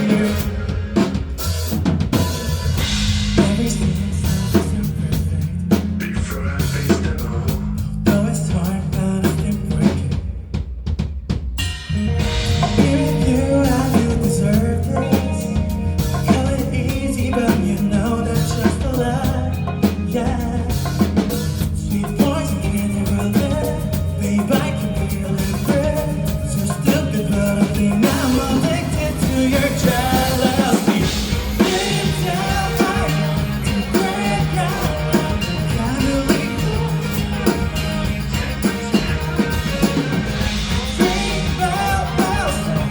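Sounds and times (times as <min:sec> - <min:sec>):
live rock band playing: 0:00.0 - 0:10.5, 0:11.6 - 0:42.9.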